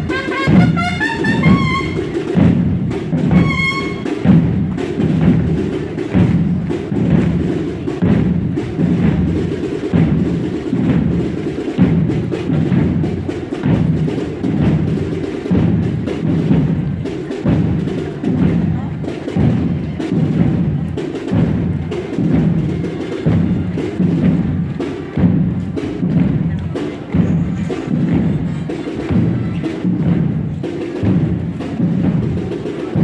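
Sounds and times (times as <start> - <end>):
drum corps playing march beat: 0.0 - 33.0.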